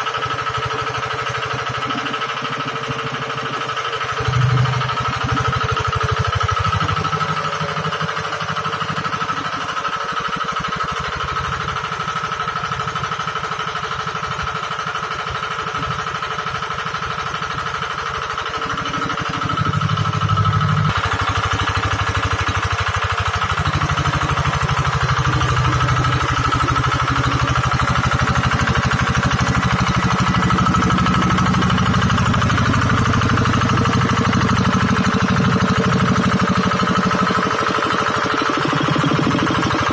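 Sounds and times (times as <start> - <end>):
drilling rig engine chugging: 0.0 - 39.9.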